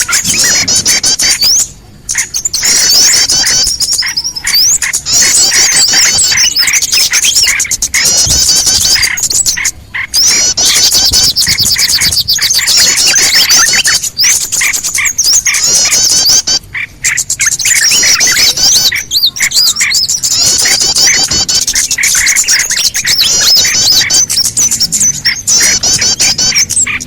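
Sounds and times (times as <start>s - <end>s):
chorus of small birds chirping: 0.0s - 27.0s.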